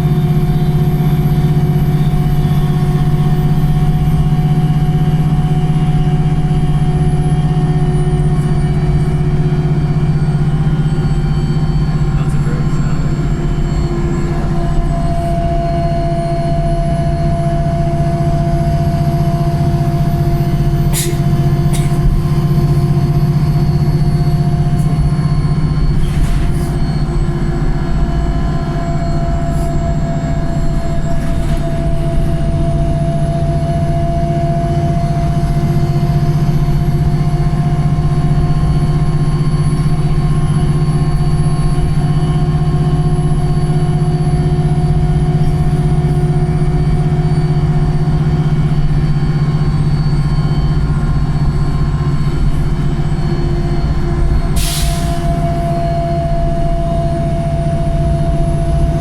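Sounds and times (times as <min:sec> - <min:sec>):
bus drivetrain drone: 0:00.0 - 0:59.0
gearbox whine: 0:00.0 - 0:59.0
high whine with road speed: 0:00.0 - 0:59.0.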